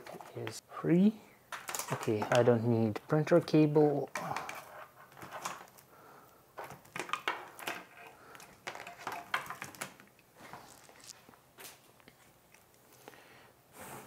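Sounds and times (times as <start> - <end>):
wires rustling: 1.5 - 13.1.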